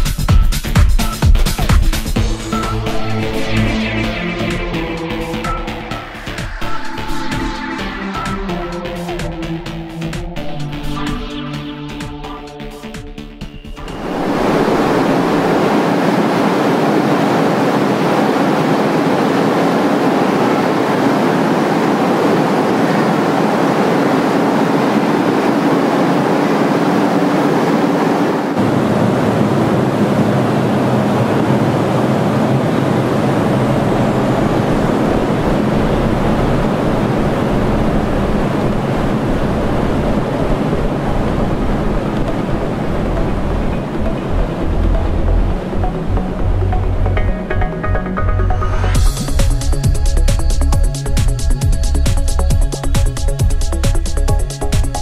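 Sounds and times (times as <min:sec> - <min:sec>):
turbine rushing noise: 0:00.0 - 0:55.0
low hum: 0:01.6 - 0:55.0.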